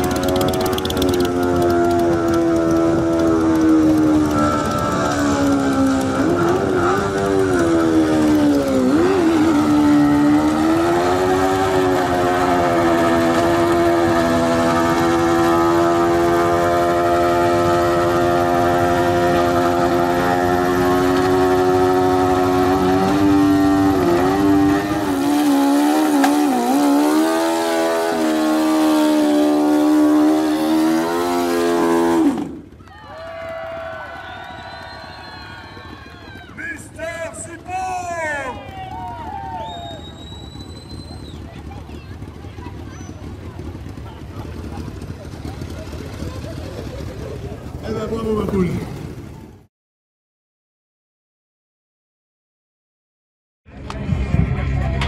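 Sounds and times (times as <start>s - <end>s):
motorcycle engine revving high: 0.0s - 32.9s, 34.5s - 49.7s.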